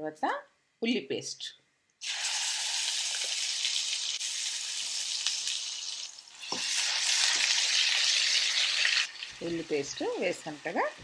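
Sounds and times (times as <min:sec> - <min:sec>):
onion paste sizzling in hot oil: 0:02.0 - 0:11.0.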